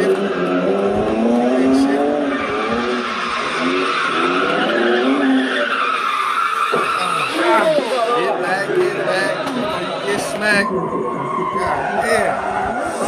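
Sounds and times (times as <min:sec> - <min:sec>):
car engine revving: 0:00.0 - 0:13.0
tyres squealing: 0:01.6 - 0:13.0.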